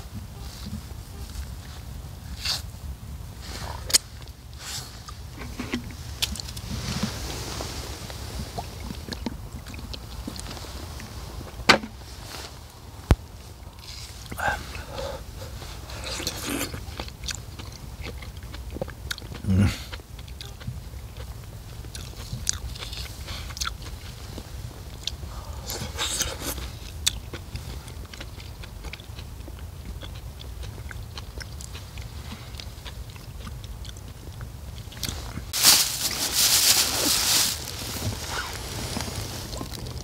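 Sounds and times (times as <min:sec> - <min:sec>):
close-up wet chewing: 0:03.4 - 0:40.0.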